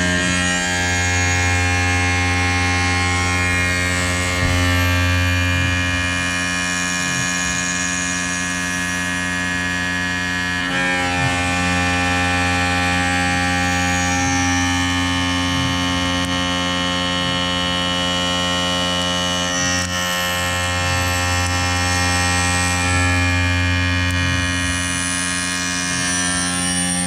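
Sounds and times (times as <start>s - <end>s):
mill spindle humming and whining: 0.0s - 27.0s.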